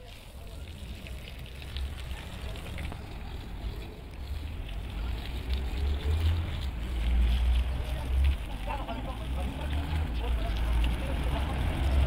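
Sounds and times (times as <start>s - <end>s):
hose water spraying on rug: 0.0s - 12.0s.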